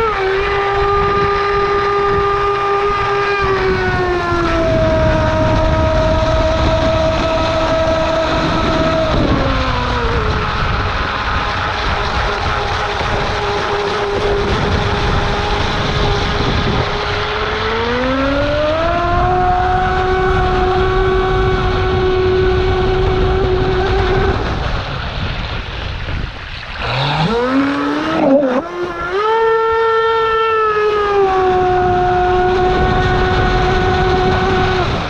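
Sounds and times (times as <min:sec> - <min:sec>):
electric boat motor whining: 0:00.0 - 0:35.0
water rushing and spraying: 0:00.0 - 0:35.0.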